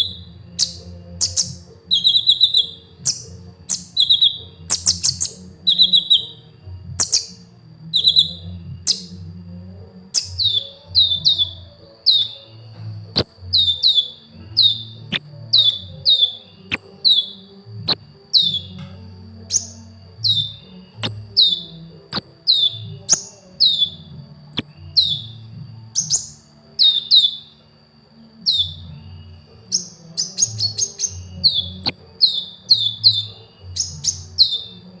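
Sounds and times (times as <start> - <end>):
steady high whine: 0.0 - 35.0
sunbird singing high chirps: 0.0 - 35.0.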